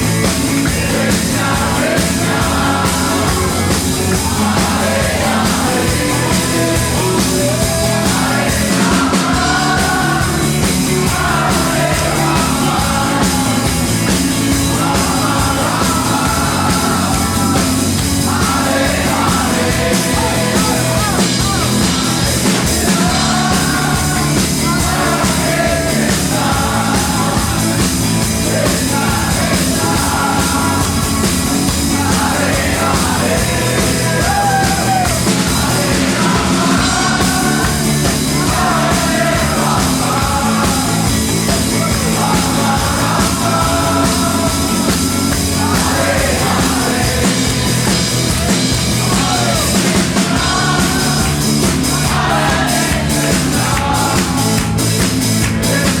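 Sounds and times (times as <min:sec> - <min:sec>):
loud rock music: 0:00.0 - 0:56.0
person singing: 0:00.5 - 0:54.9.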